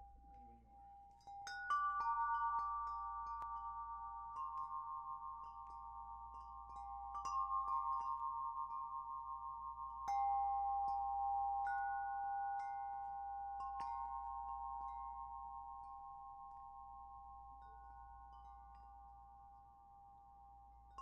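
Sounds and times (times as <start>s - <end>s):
metal wind chime ringing: 0.0s - 21.0s.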